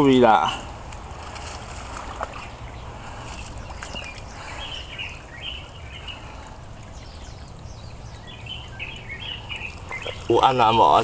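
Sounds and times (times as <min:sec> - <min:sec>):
birds chirping: 0:00.0 - 0:11.0
steady low rumble: 0:00.1 - 0:10.4.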